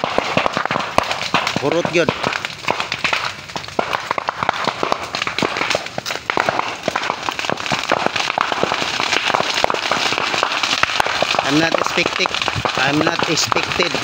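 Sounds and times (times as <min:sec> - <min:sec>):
bamboo fire crackling and popping: 0:00.0 - 0:14.0.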